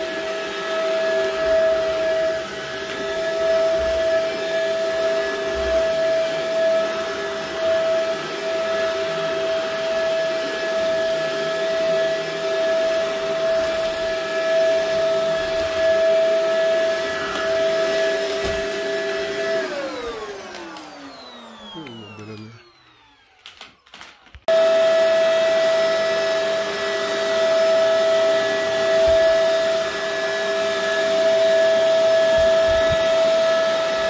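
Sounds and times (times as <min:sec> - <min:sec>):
upright vacuum cleaner running: 0:00.0 - 0:34.0
vacuum motor spinning down: 0:00.0 - 0:34.0.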